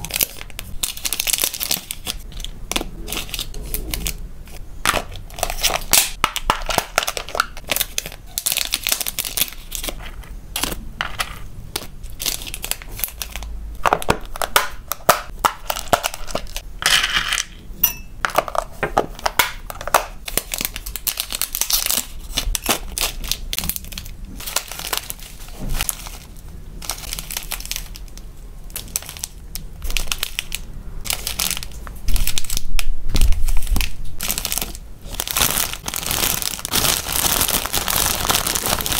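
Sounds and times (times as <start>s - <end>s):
plastic bags crinkling: 0.0s - 16.6s, 18.4s - 38.9s.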